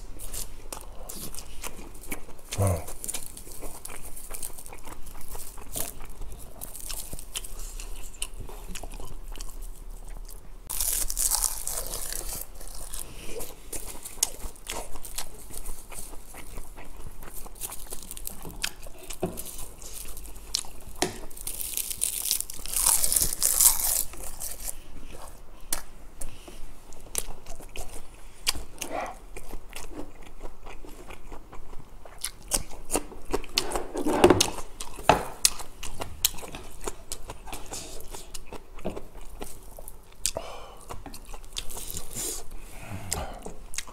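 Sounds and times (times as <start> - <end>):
chewing and light crunching: 0.0 - 43.9.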